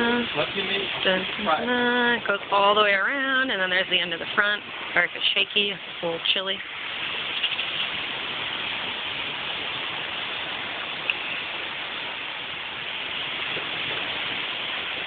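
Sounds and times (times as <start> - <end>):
storm wind rushing: 0.0 - 15.0.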